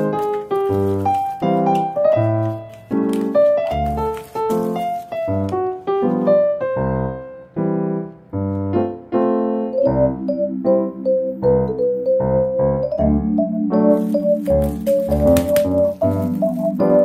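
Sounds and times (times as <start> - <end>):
light keyboard tune: 0.0 - 17.0.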